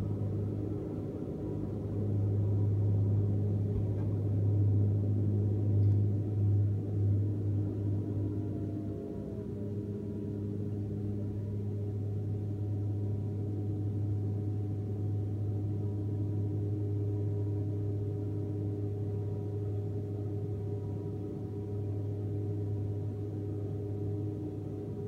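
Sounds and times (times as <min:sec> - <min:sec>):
turboprop engines droning in cabin: 0:00.0 - 0:25.0.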